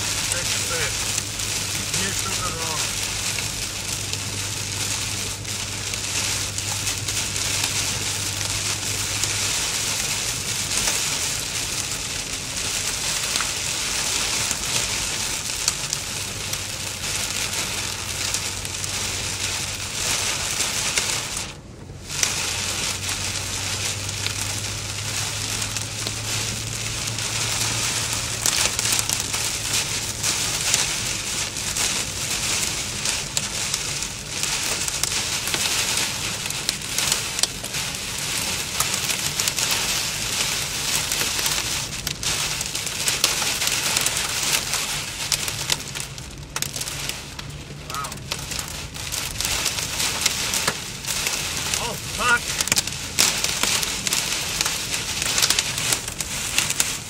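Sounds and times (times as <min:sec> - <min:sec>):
car interior hum: 0:00.0 - 0:57.0
heavy rain on car roof: 0:00.0 - 0:57.0.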